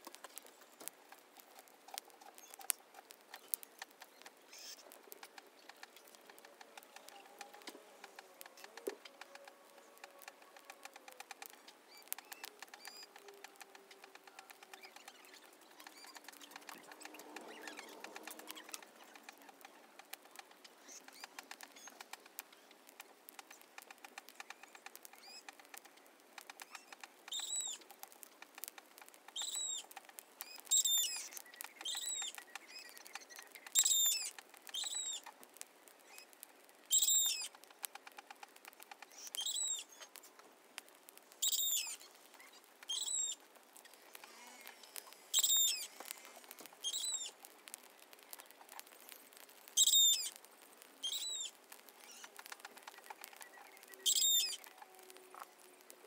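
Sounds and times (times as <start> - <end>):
bird calling: 0.0 - 35.4, 36.0 - 40.2, 41.4 - 47.4, 48.2 - 50.4, 51.0 - 56.0
faint rapid clicking: 0.0 - 56.0.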